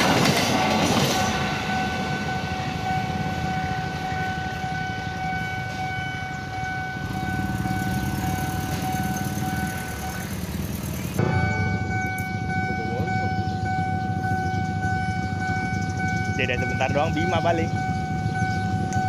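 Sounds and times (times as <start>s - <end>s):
level-crossing electronic alarm tone: 0.7s - 19.0s
motorcycle engines idling: 2.1s - 19.0s.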